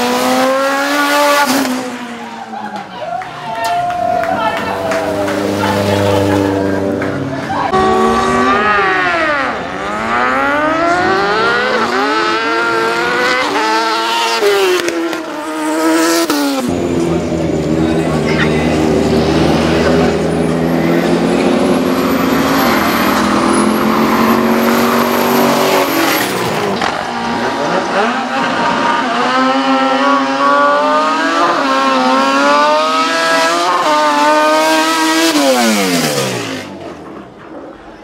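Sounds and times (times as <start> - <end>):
race car engines revving: 0.0 - 38.0
car accelerating through gears: 4.8 - 37.1.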